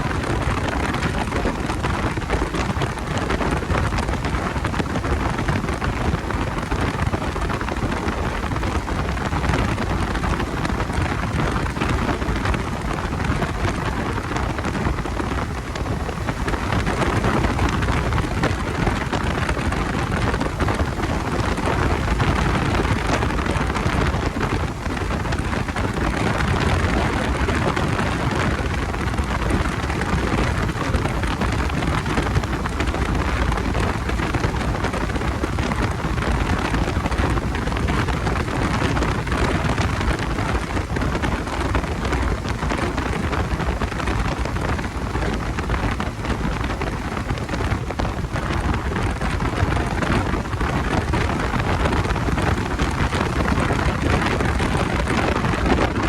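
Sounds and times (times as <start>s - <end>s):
motorcycle road noise: 0.0s - 56.0s
rushing wind: 0.0s - 56.0s.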